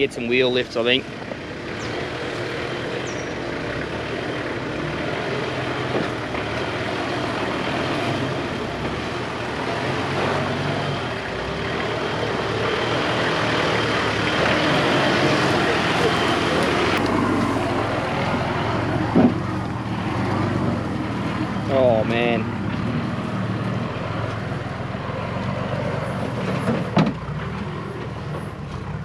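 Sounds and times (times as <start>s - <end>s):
vehicle engine running at low revs: 0.0s - 29.0s.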